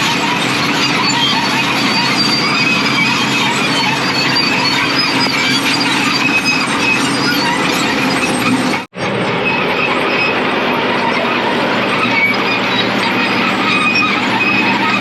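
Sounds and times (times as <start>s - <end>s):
excavator tracks squealing and rattling: 0.0s - 15.0s.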